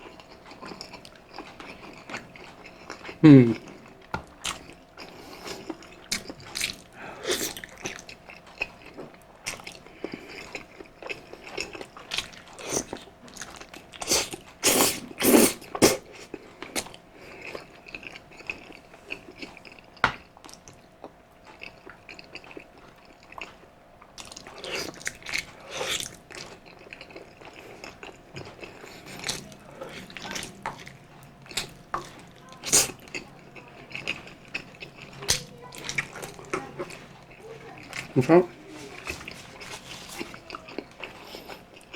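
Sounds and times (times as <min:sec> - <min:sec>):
close chewing and mouth sounds: 0:00.0 - 0:41.9.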